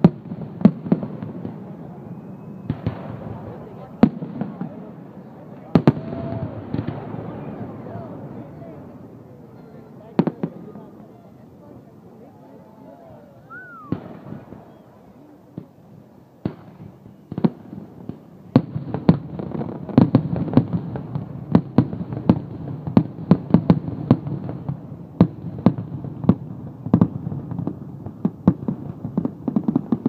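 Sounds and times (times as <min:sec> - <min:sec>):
fireworks bursting with sharp bangs: 0:00.0 - 0:11.0, 0:13.5 - 0:30.0.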